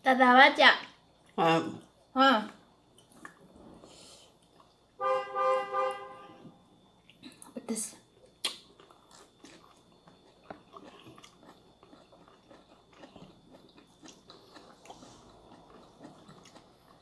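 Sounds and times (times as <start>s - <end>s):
chewing and crunching food: 0.8s - 5.0s, 6.8s - 17.0s.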